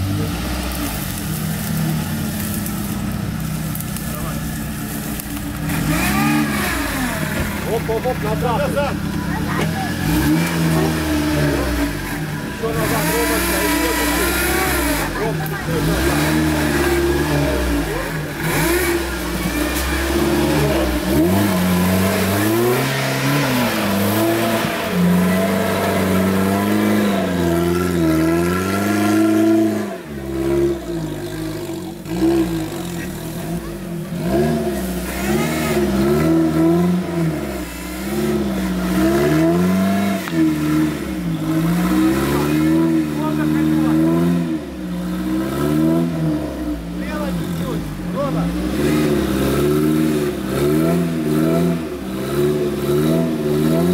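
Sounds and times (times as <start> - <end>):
engine revving in mud: 0.0 - 53.9.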